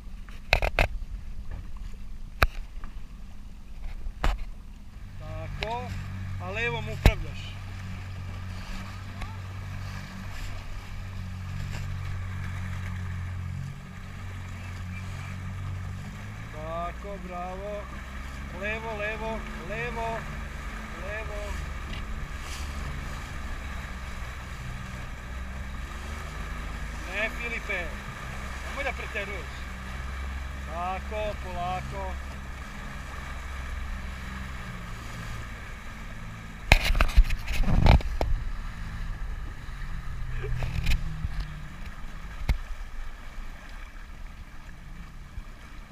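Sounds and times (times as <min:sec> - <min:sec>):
motorboat engine running: 0:00.0 - 0:45.9
wind: 0:00.0 - 0:45.9.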